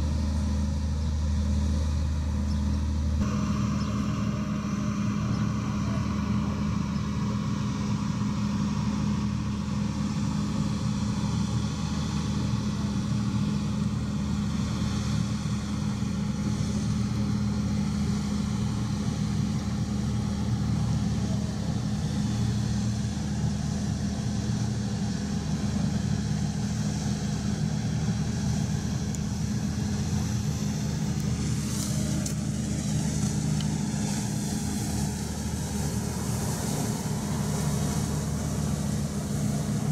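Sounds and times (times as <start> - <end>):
diesel machinery droning: 0.0 - 39.9.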